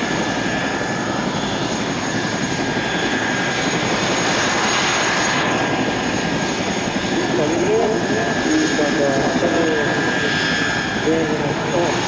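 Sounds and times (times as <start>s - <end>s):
propeller engine running: 0.0s - 12.0s.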